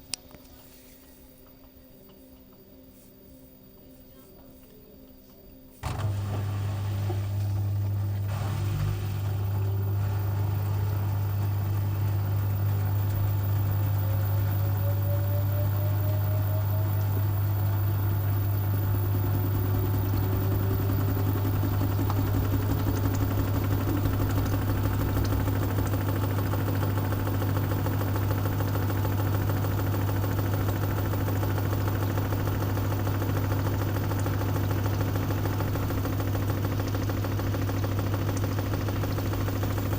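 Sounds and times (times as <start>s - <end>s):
washing machine spinning hum: 0.0s - 39.9s
motor whine rising in pitch: 5.8s - 39.9s.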